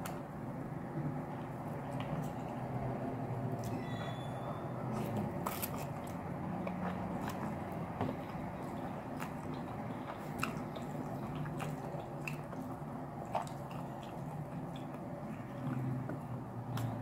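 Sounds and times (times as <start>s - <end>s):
low background hum: 0.0s - 17.0s
person chewing food: 0.0s - 17.0s.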